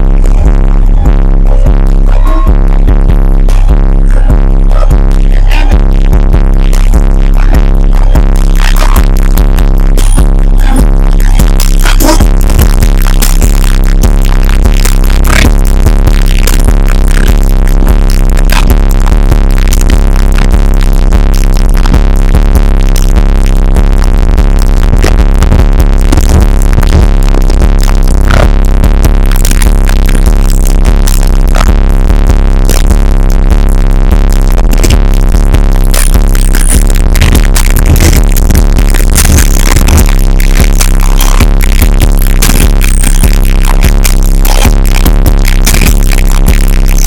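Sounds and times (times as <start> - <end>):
loud bass-heavy electronic music: 0.0 - 47.0.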